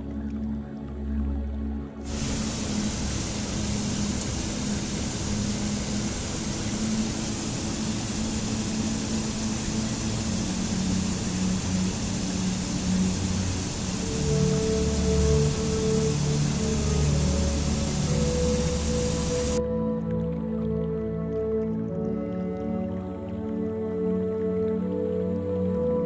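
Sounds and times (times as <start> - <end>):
low musical drone: 0.0 - 26.0
rushing water: 0.0 - 26.0.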